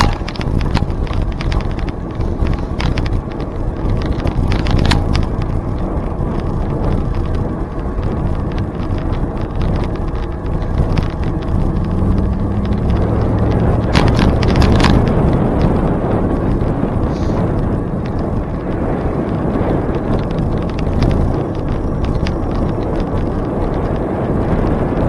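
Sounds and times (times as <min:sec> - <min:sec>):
clicks and rattles: 0:00.0 - 0:18.6, 0:19.9 - 0:24.0
wind buffeting microphone: 0:00.0 - 0:25.0.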